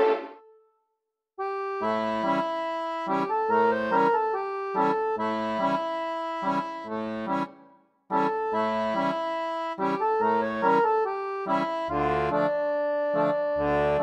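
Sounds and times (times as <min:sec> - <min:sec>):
accordion tune: 0:00.0 - 0:00.4, 0:01.4 - 0:14.0.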